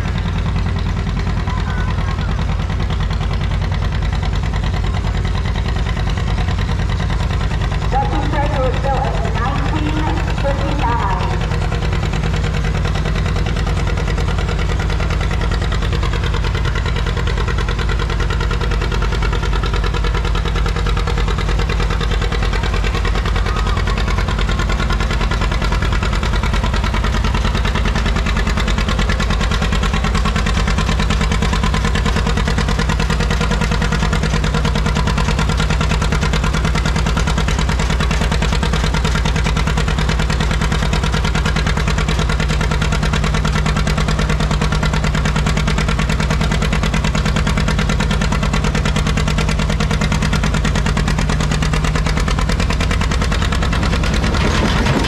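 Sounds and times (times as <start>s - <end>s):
tractor engine running steadily: 0.0s - 55.0s.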